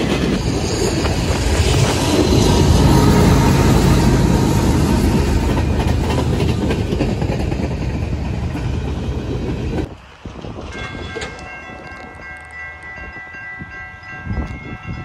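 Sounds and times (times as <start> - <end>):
freight train rolling past: 0.0 - 15.0
steel wheels rattling on rails: 0.0 - 15.0.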